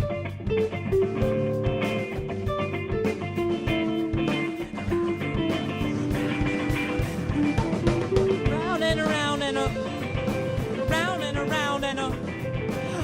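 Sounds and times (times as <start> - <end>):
bass: 0.0 - 13.0
bending melodic line: 0.0 - 13.0
drum kit beat: 0.0 - 13.0
guitar: 0.0 - 13.0.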